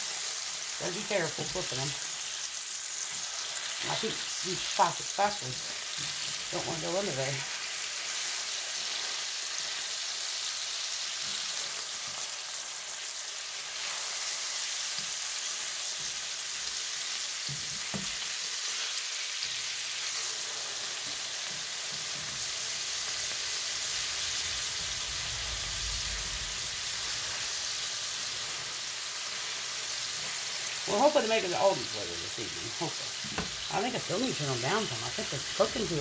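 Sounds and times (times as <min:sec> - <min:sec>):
patties sizzling in a pan: 0:00.0 - 0:36.0.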